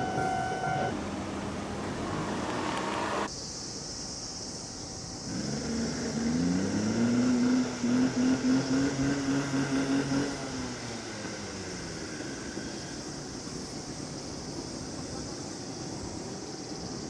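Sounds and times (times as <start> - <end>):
electric tram motor humming: 0.0 - 3.7, 5.0 - 17.0.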